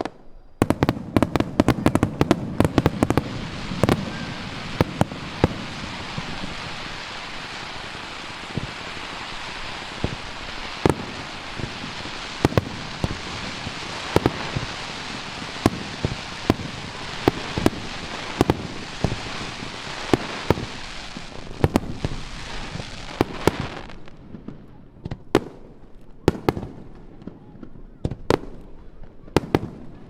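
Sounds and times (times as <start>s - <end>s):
firework bangs: 0.0s - 30.0s
fireworks crackling: 0.0s - 30.0s.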